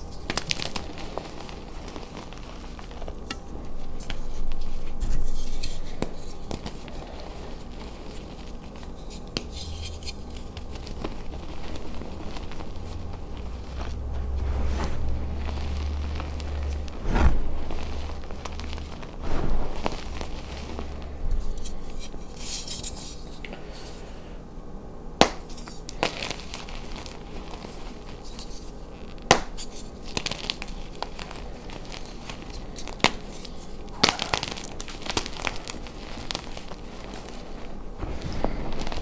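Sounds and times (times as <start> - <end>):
chalk crumbling: 0.0 - 24.0, 25.2 - 39.0.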